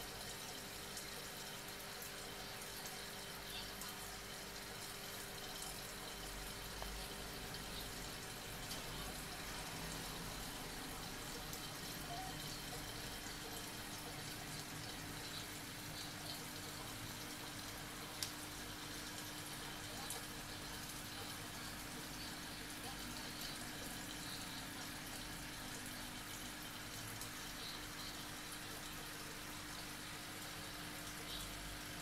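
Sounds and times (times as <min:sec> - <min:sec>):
aquarium water splashing: 0:00.0 - 0:32.0
faint hum: 0:00.0 - 0:32.0.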